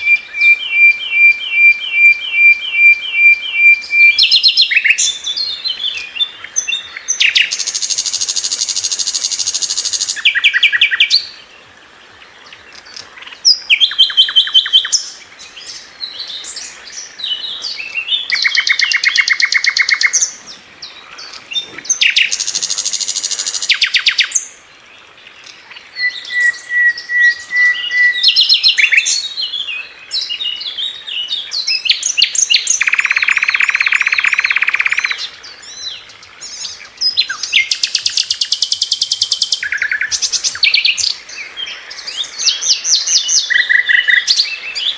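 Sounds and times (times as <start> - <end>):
flycatcher singing: 0.0 - 11.4, 12.8 - 24.5, 25.7 - 44.9.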